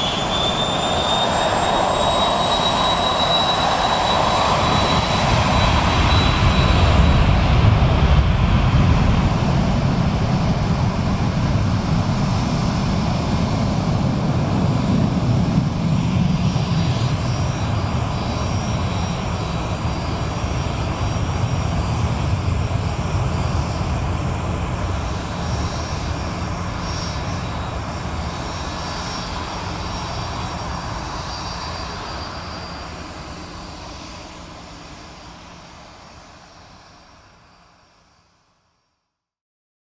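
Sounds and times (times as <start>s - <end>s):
jet engines rumbling: 0.0s - 37.1s
jet engine whine: 0.0s - 38.8s.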